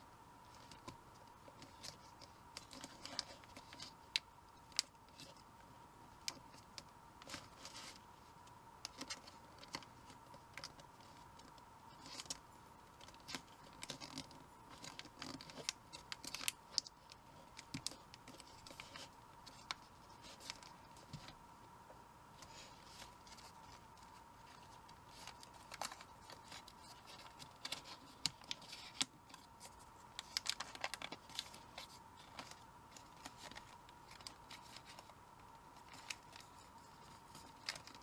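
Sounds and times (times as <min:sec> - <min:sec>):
faint steady whine: 0:00.0 - 0:38.0
paper crinkling and rustling: 0:00.5 - 0:05.4, 0:06.2 - 0:21.4, 0:22.4 - 0:38.0.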